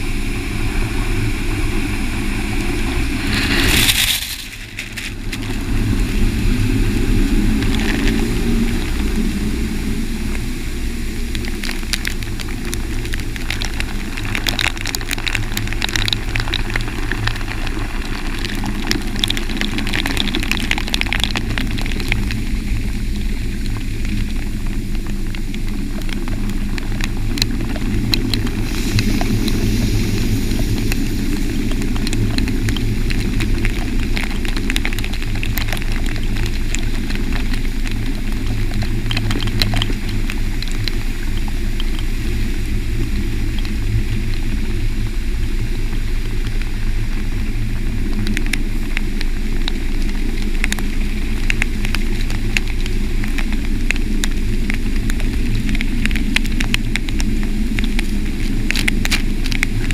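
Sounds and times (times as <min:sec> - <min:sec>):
water spraying: 0:00.0 - 0:56.2
low rumble: 0:00.0 - 0:59.9
water spattering close by: 0:00.0 - 0:59.9.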